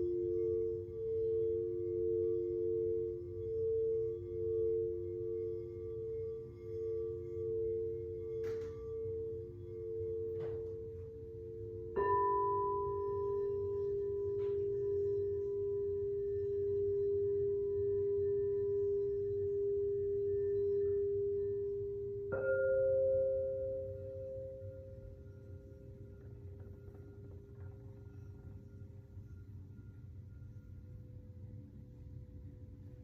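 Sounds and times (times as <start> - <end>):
higher-pitched bowl struck: 0.0 - 30.5
singing bowls ringing: 0.0 - 33.0.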